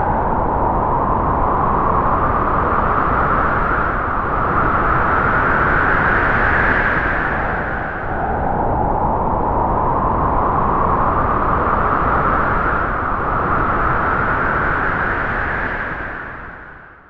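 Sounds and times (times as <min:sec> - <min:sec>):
strong wind howling: 0:00.0 - 0:17.0.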